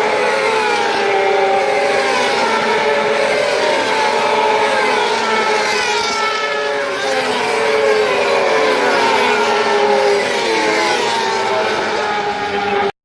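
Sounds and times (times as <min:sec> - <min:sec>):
motorbike engines at high revs: 0:00.0 - 0:12.8.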